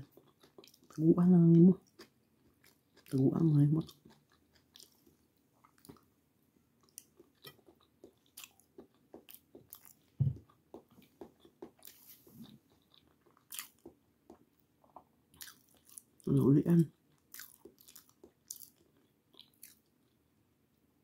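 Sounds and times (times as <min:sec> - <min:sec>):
person chewing: 0:00.0 - 0:06.1, 0:06.8 - 0:16.3, 0:16.9 - 0:20.2.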